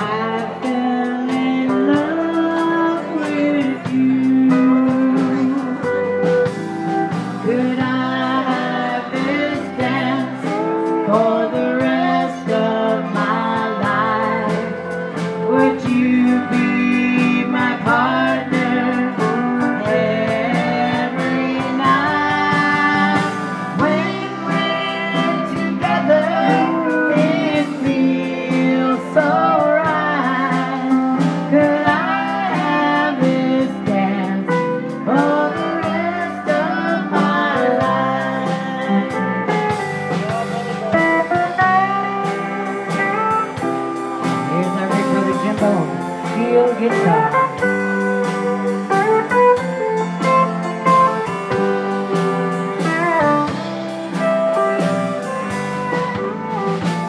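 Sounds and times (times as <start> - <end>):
live band playing country music: 0.0 - 57.0
steel guitar sliding notes: 0.0 - 57.0.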